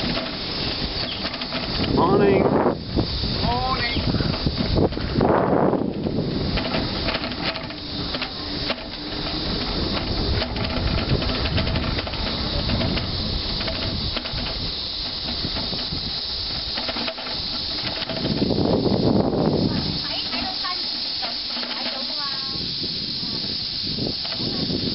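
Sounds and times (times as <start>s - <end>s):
bike clicks and rattles: 0.0s - 24.9s
tyres rolling on concrete: 0.0s - 24.9s
wind on microphone: 0.0s - 24.9s.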